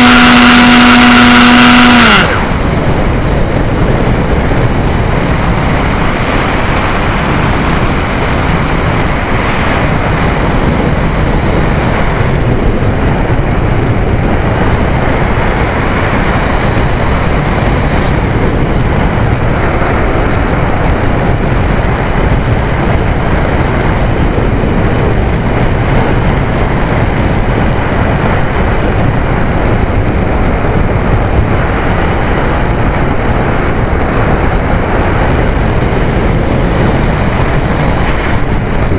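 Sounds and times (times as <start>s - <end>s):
electric motor and propeller whine: 0.0s - 38.9s
wind buffeting microphone: 0.0s - 38.9s.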